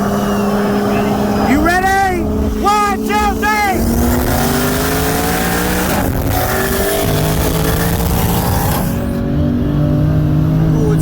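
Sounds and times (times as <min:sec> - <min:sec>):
race car engines at full throttle: 0:00.0 - 0:11.0.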